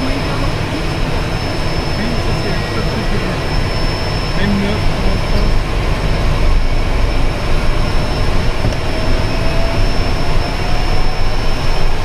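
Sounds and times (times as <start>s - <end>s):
high turbine whine: 0.0s - 12.0s
propeller engine rumble: 0.0s - 12.0s.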